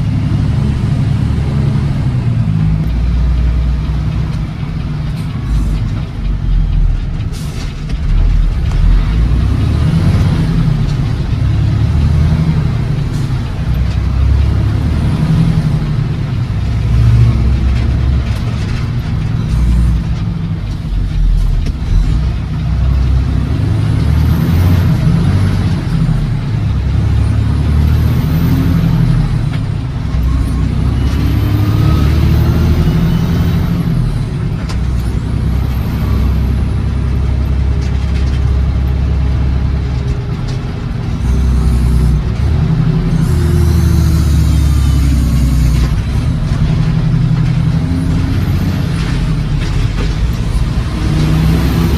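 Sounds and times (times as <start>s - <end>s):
road noise: 0.0s - 51.9s
truck engine rumbling: 0.0s - 51.9s.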